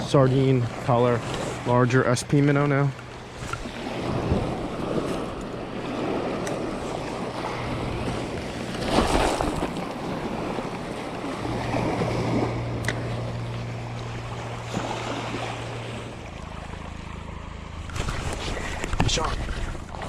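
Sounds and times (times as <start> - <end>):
small waves washing onto beach: 0.0 - 20.0.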